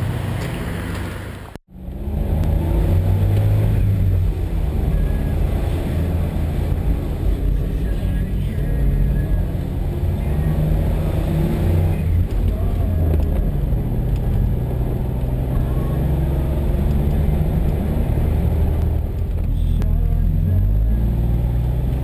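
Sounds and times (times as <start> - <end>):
small car engine driving: 0.0 - 22.0
wind and road noise: 0.0 - 22.0.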